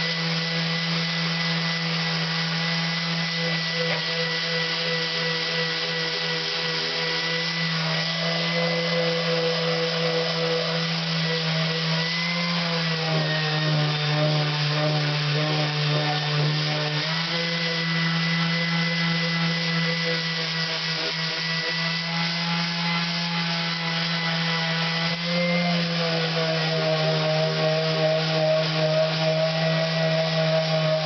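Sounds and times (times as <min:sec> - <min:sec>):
electric sander motor running: 0:00.0 - 0:31.0.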